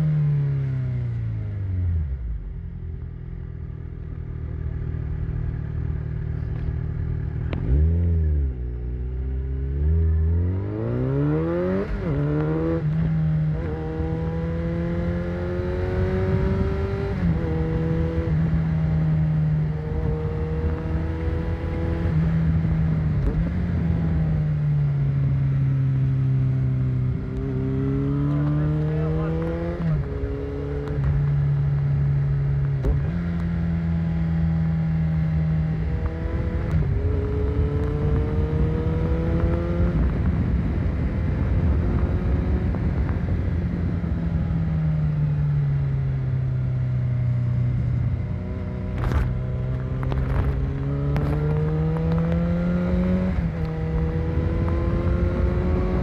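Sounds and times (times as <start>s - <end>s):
motorcycle engine revving: 4.0s - 56.0s.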